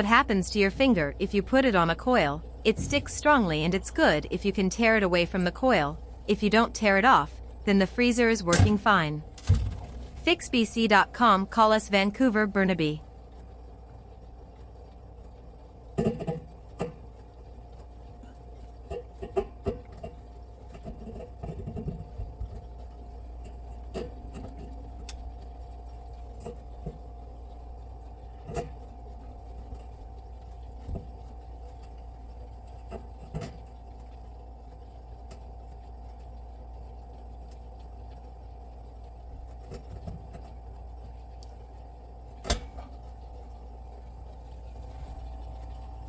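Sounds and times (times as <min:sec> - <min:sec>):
refrigerator humming: 0:00.0 - 0:46.0.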